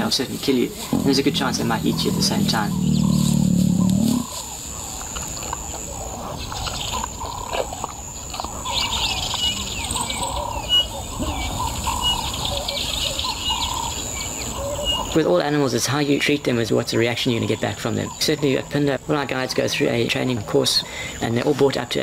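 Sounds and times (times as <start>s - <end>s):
wild birds chirping and calling: 0.0s - 22.0s.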